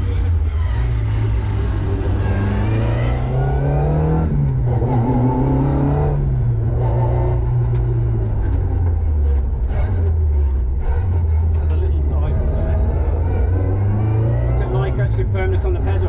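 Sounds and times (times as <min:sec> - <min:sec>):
car engine pulling hard: 0:00.0 - 0:16.0.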